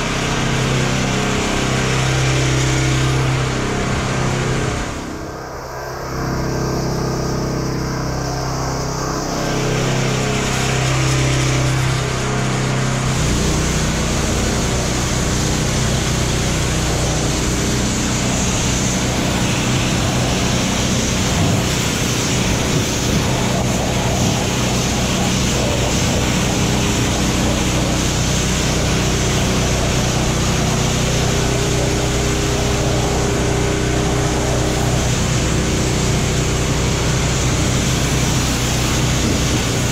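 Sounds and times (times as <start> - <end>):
water spray hissing on metal: 0.0 - 5.2, 6.4 - 39.9
pressure washer running: 0.0 - 39.9.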